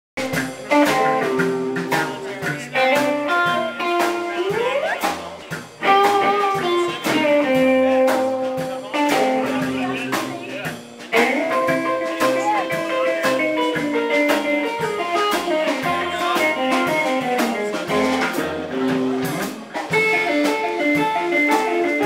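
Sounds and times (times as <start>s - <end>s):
drum kit steady beat: 0.2s - 22.0s
electric guitar: 0.2s - 22.0s.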